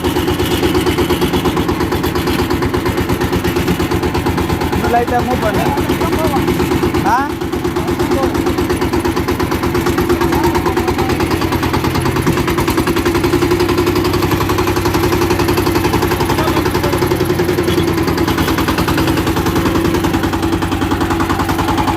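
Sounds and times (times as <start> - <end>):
tiller diesel engine chugging: 0.0 - 21.9.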